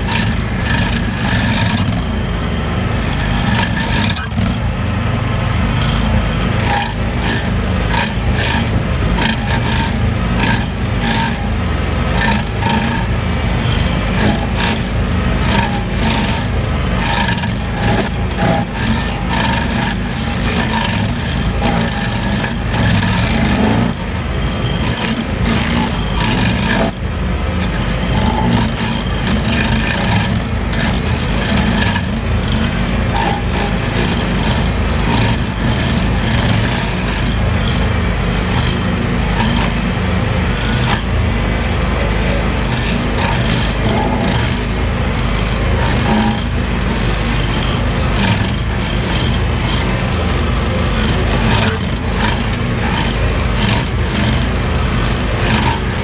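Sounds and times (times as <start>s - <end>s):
small gasoline engine running: 0.0s - 56.0s.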